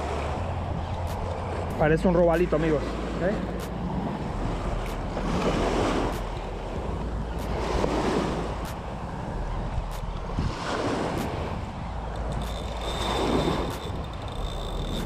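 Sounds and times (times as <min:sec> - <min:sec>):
small waves washing ashore: 0:00.0 - 0:15.0
wind buffeting microphone: 0:00.0 - 0:15.0.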